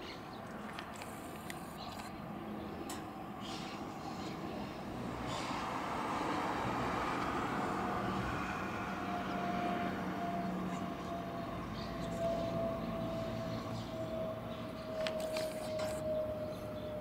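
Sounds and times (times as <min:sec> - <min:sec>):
jet airliner passing overhead: 0:00.0 - 0:17.0
jet engine whine: 0:00.0 - 0:17.0.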